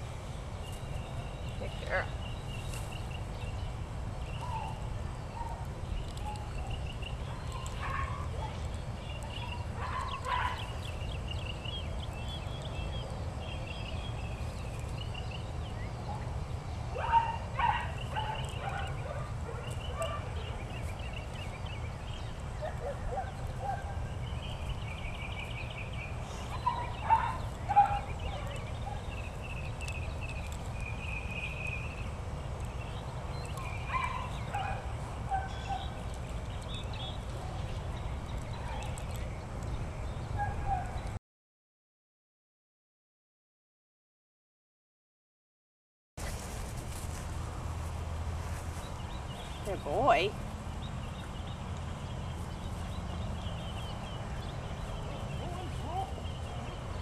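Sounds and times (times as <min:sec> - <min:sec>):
birds chirping: 0:00.0 - 0:41.2, 0:46.2 - 0:57.0.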